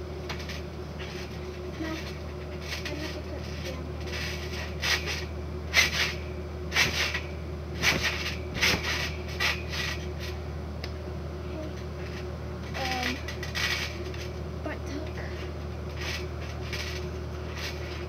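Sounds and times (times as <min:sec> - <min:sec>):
trampoline springs creaking: 0:00.0 - 0:10.4, 0:11.4 - 0:18.0
steady low hum: 0:00.0 - 0:18.0.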